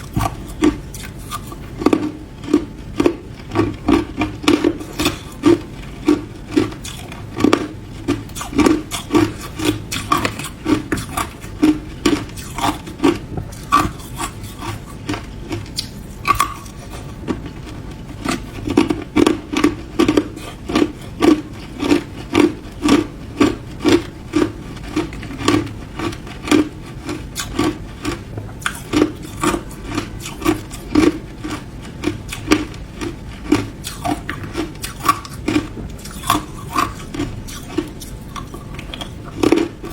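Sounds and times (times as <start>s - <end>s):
ice crunching between teeth: 0.0s - 17.5s, 18.2s - 39.9s.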